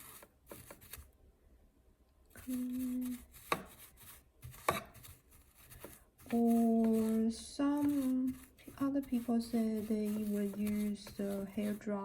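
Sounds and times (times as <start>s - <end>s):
brush scratching metal: 0.0s - 1.1s, 2.4s - 12.0s.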